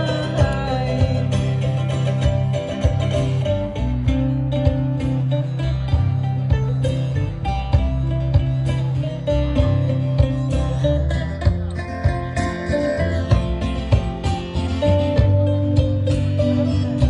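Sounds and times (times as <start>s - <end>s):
bass line: 0.0s - 17.0s
country band playing: 0.0s - 17.0s
guitar: 0.0s - 17.0s.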